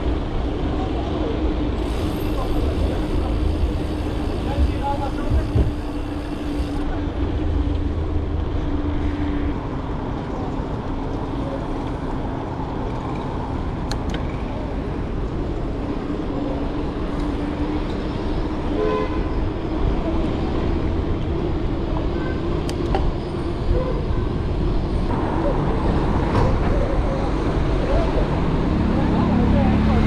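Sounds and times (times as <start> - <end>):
road traffic hum and rumble: 0.0 - 30.0.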